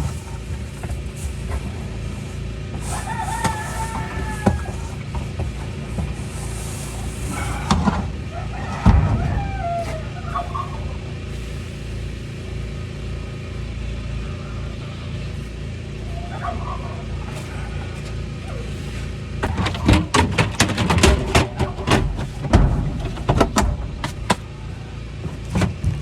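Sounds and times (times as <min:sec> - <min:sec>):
low engine-like drone: 0:00.0 - 0:26.0.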